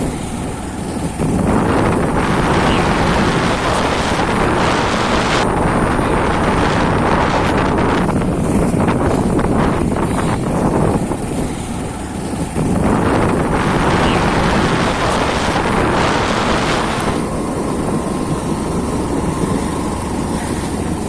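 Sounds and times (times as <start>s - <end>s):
hissing rush: 0.0s - 21.0s
off-road motorcycle running: 0.0s - 21.0s
wind buffeting microphone: 0.0s - 21.0s.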